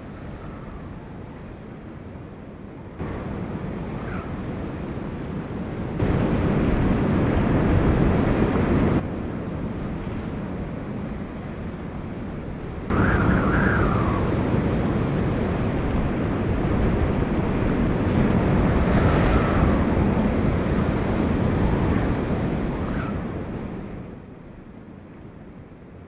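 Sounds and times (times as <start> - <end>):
high wavering wind howl: 0.0 - 26.0
strong wind with driving rain: 0.0 - 26.0.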